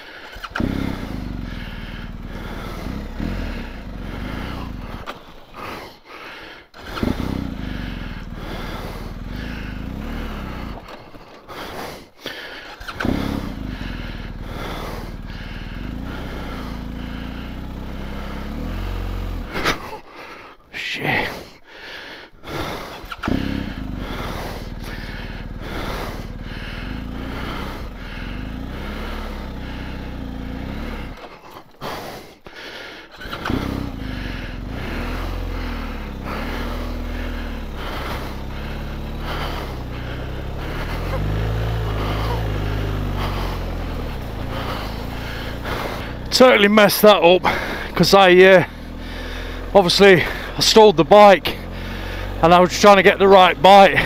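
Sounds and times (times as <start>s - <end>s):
motorcycle engine stalling and restarting: 0.0s - 54.0s.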